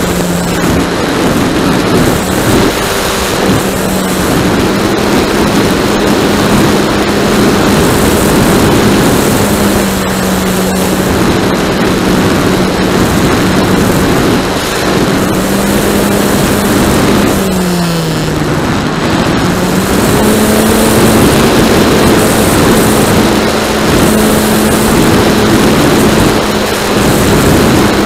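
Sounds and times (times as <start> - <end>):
model plane motor droning: 0.0 - 28.0
wind rush on microphone: 0.0 - 28.0.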